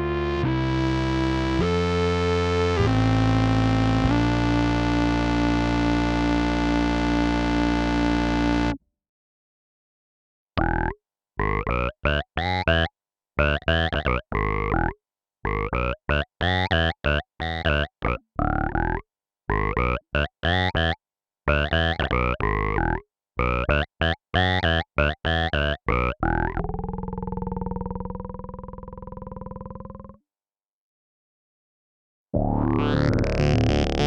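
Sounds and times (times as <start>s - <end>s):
synth bass riff: 0.0s - 8.8s, 10.6s - 30.2s, 32.4s - 34.0s.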